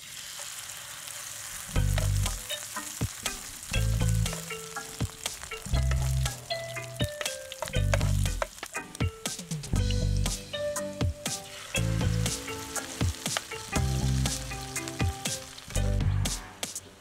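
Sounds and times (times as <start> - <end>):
metal spoon in frying pan: 0.0 - 10.0, 11.3 - 15.8
oil spattering crackles: 0.0 - 10.4, 11.1 - 16.9
batter sizzling in hot oil: 0.0 - 17.0.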